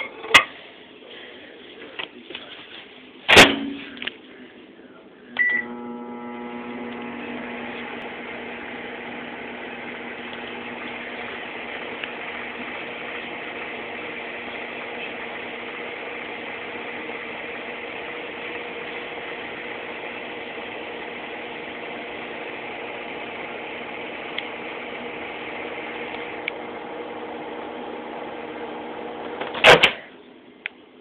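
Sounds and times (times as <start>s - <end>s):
microwave oven humming: 5.2s - 30.7s.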